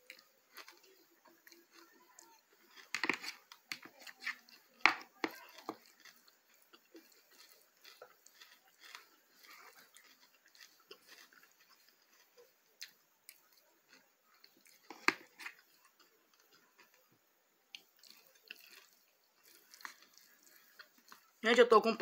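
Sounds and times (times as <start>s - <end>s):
person chewing: 0.0s - 21.4s.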